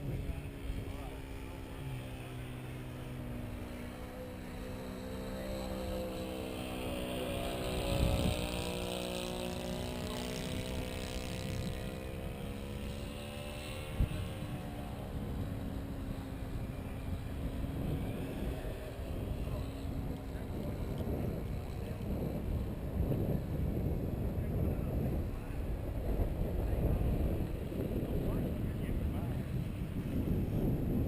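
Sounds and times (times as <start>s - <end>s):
model plane propellers droning: 0.0s - 31.0s
wind buffeting microphone: 0.0s - 31.0s.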